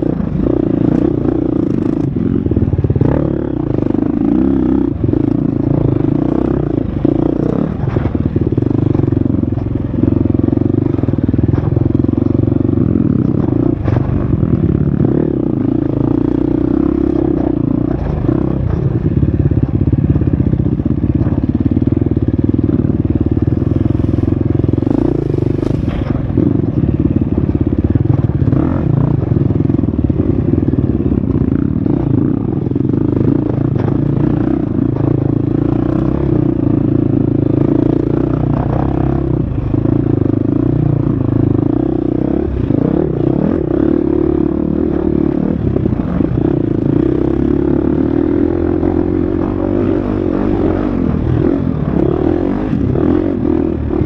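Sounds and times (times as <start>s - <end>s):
dirt bike engine revving: 0.0s - 20.1s, 21.2s - 54.0s.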